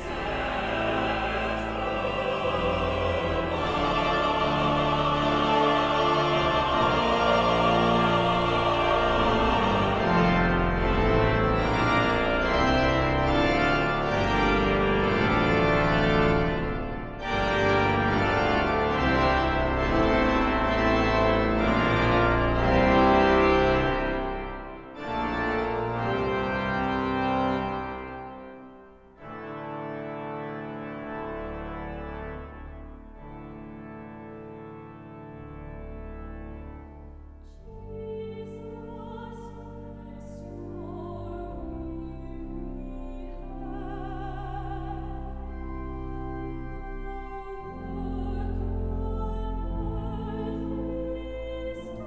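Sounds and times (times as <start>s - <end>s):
organ chords: 0.0s - 52.0s.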